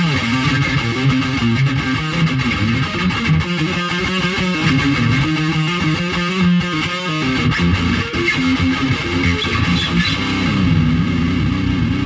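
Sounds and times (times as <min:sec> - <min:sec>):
electric guitar riff: 0:00.0 - 0:12.0.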